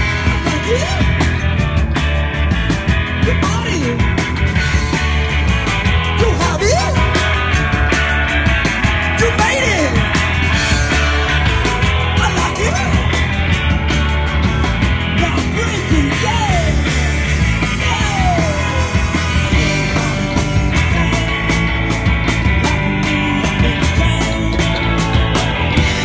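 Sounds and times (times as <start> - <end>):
live rock band playing: 0.0 - 26.0
steady drum beat: 0.0 - 26.0.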